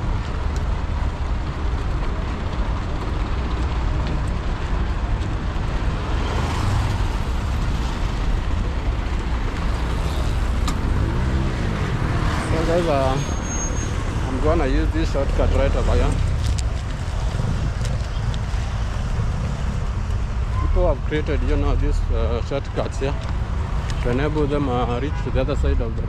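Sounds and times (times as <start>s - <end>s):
heavy road traffic: 0.0s - 26.0s.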